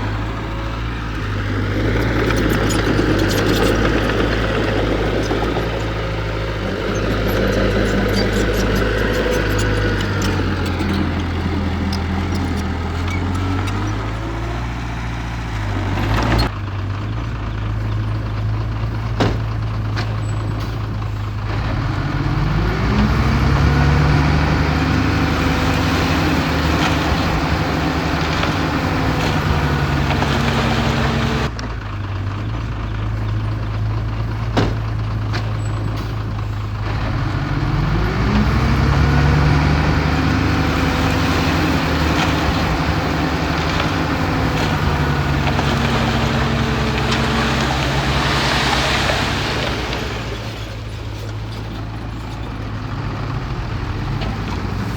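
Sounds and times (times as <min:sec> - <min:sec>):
heavy diesel engine revving: 0:00.0 - 0:54.9.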